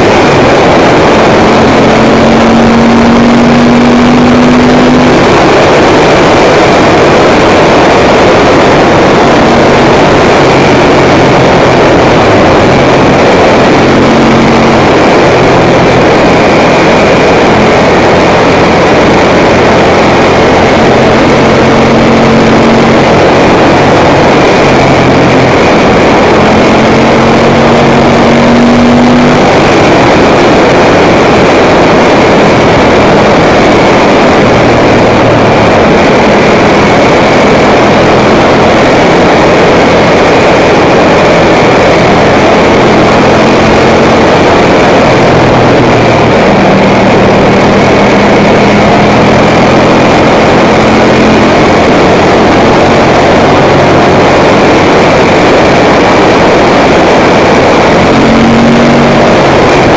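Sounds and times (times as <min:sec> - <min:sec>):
motorcycle engine: 0:00.0 - 0:59.9
wind rushing on microphone: 0:00.0 - 0:59.9.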